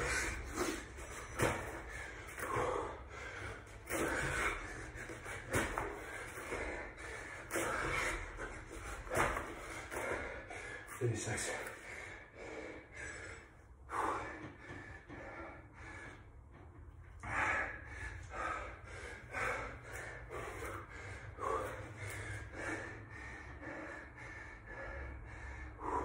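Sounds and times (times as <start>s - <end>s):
man breathing hard: 0.0s - 26.0s.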